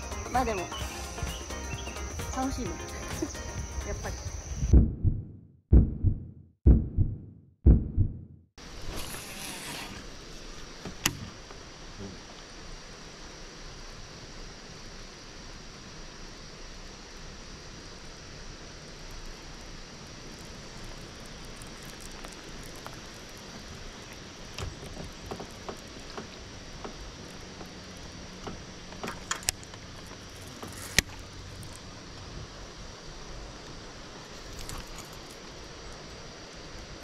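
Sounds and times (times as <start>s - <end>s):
steady outdoor hiss: 0.0s - 4.7s, 8.6s - 37.0s.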